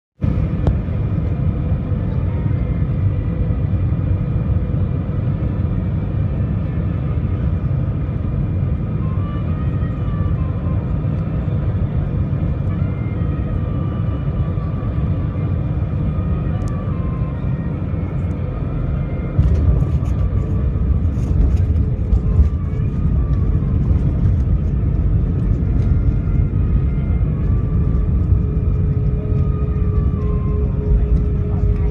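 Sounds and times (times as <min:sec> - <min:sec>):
engine and runway rumble: 0:00.2 - 0:31.9.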